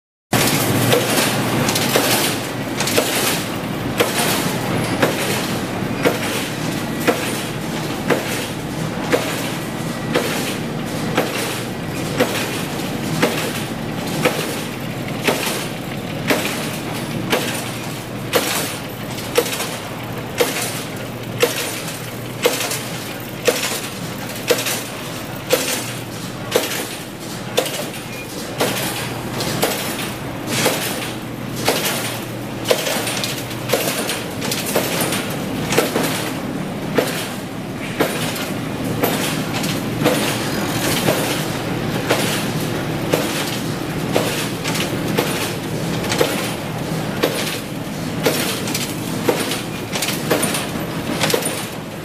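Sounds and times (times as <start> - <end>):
wire machine running: 0.4 - 52.0.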